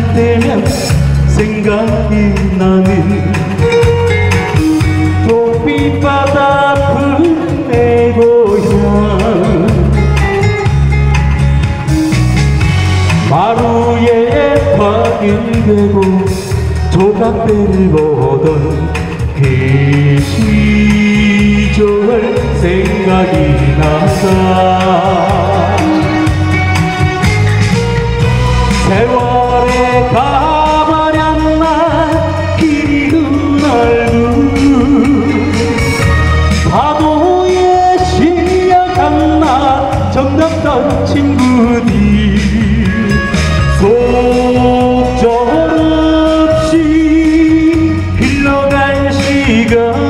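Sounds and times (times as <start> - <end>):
man singing into a microphone: 0.0 - 27.0, 28.5 - 50.0
backing track with steady beat: 0.0 - 50.0
instrumental accompaniment: 0.0 - 50.0.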